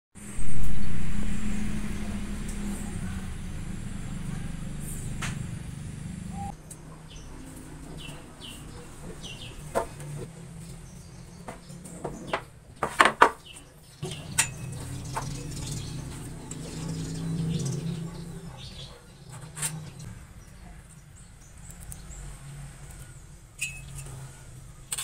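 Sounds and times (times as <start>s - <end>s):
steady low hum: 0.2s - 12.4s, 13.9s - 22.2s
small birds chirping: 0.3s - 24.8s.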